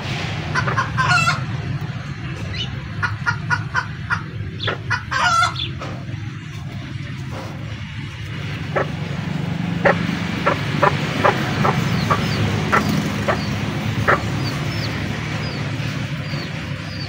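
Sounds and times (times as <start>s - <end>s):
chickens clucking: 0.0s - 17.0s
steady low hum: 0.0s - 17.0s.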